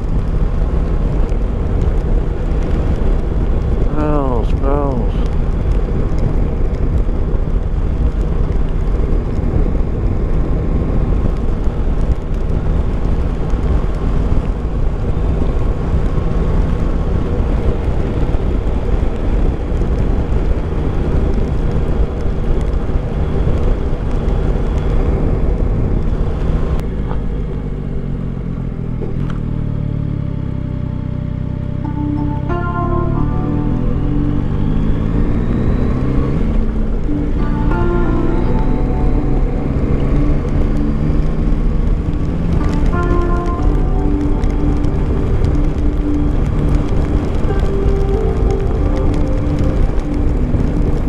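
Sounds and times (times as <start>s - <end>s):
wind noise: 0.0s - 27.3s, 33.6s - 51.0s.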